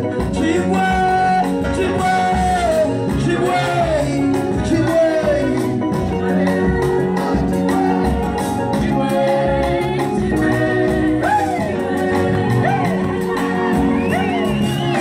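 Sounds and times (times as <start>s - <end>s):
person singing lead vocals: 0.0s - 15.0s
worship band playing: 0.0s - 15.0s.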